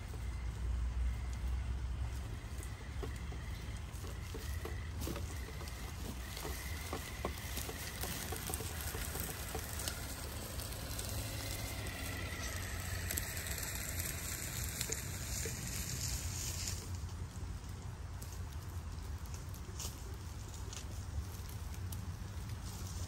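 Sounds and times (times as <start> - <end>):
toy truck tyres crackling on leaves: 0.0 - 23.0.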